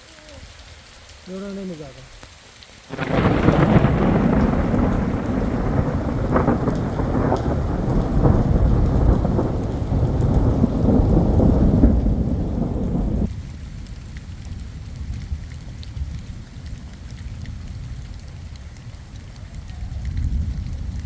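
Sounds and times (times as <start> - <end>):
heavy rain pouring: 0.0 - 21.0
deep thunder rumble: 2.9 - 21.0.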